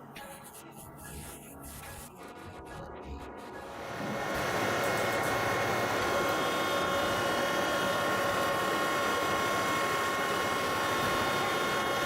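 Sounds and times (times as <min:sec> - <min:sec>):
heavy machinery engine drone: 0:01.0 - 0:12.0
high whine: 0:01.1 - 0:12.0.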